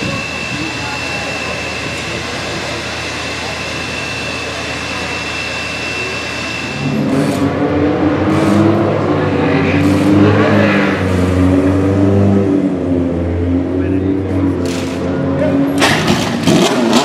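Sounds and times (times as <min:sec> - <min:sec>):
racing car engine at low revs: 0:00.0 - 0:17.0.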